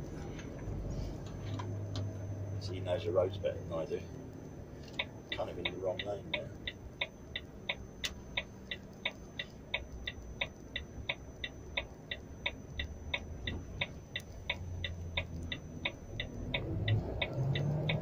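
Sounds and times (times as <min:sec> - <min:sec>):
diesel engine rumble: 0:00.0 - 0:18.0
turn signal ticking: 0:00.4 - 0:18.0.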